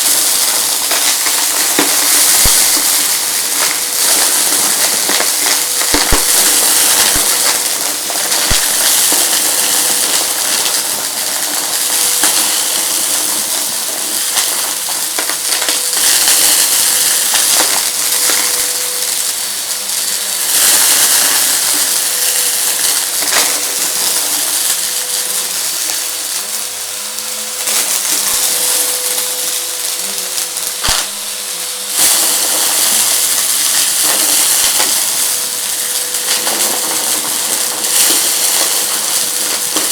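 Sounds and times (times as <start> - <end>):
debris clicking in vacuum: 0.0 - 39.9
vacuum cleaner running: 0.0 - 39.9.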